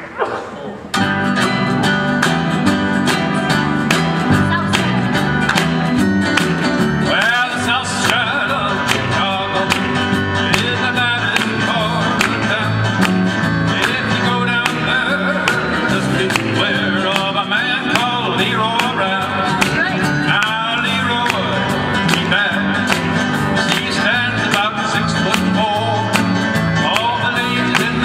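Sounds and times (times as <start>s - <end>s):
band playing rock and roll: 1.0s - 28.0s
lead melody with sliding notes: 1.0s - 28.0s.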